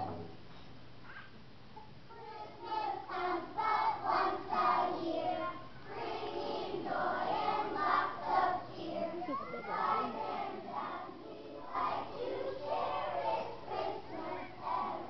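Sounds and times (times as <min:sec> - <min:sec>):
children singing in unison: 0:02.1 - 0:15.0.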